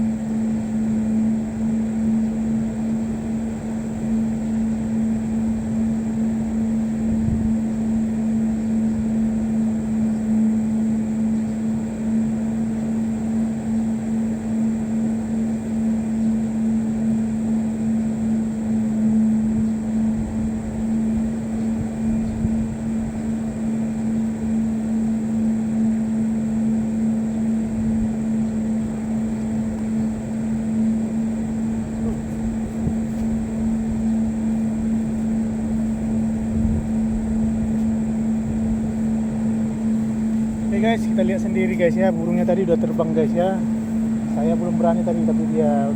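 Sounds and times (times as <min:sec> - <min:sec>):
low mechanical hum: 0:00.0 - 0:45.9.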